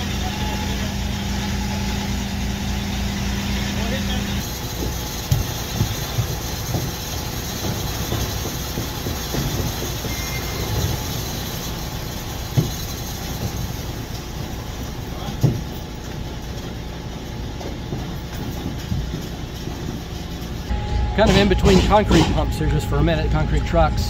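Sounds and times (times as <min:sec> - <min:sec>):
truck engine rumbling: 0:00.0 - 0:24.0.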